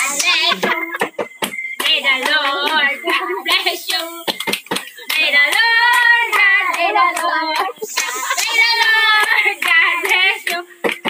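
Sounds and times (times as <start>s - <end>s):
group singing birthday song: 0.0s - 11.0s
hands clapping: 0.0s - 11.0s.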